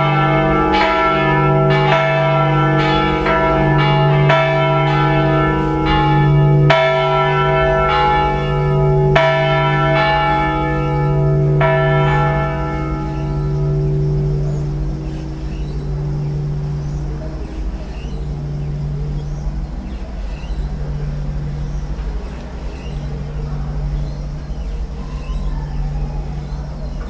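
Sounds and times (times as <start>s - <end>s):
church bells ringing: 0.0s - 27.0s
low bell hum: 0.0s - 27.0s.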